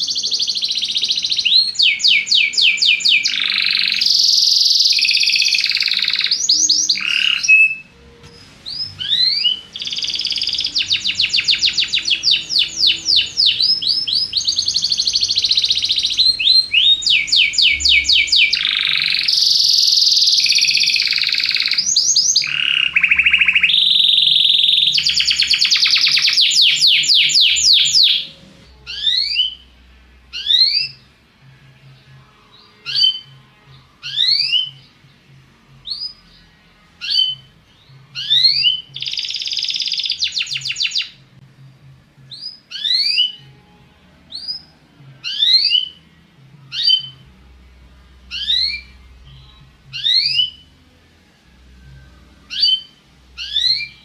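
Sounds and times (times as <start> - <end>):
canary singing trills and chirps: 0.0 - 41.4, 42.2 - 51.0, 51.6 - 54.0.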